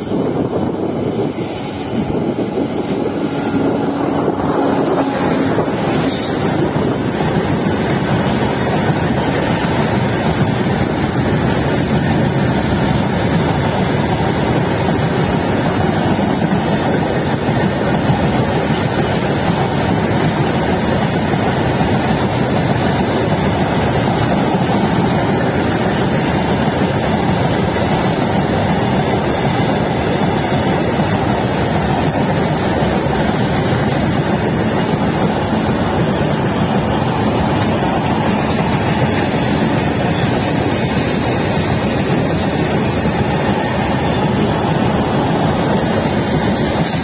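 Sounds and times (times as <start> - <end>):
freight train wheels rumbling on rails: 0.0 - 47.0.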